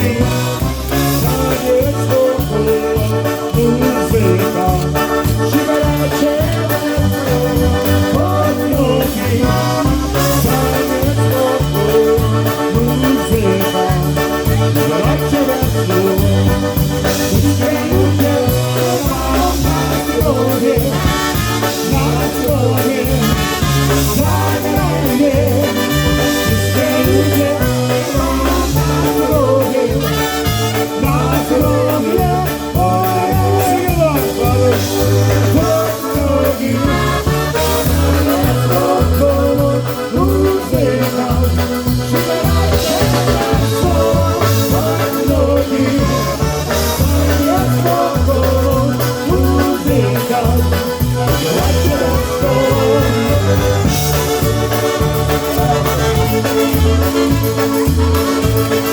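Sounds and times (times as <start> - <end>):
polka band playing: 0.0 - 58.9.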